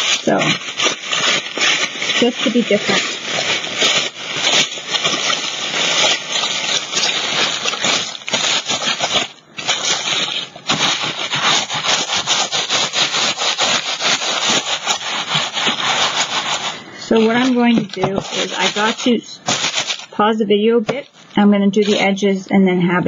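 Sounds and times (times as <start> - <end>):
tissue paper crinkling: 0.0 - 20.2, 20.9 - 22.2.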